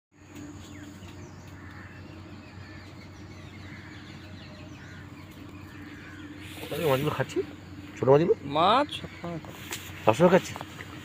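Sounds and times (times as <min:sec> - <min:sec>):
steady low hum: 0:00.1 - 0:11.0
small birds chirping: 0:00.2 - 0:11.0.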